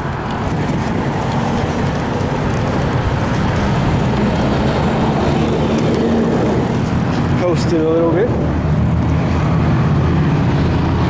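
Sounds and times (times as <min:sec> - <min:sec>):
city traffic noise: 0:00.0 - 0:11.0
passing motor vehicle hum: 0:00.0 - 0:11.0.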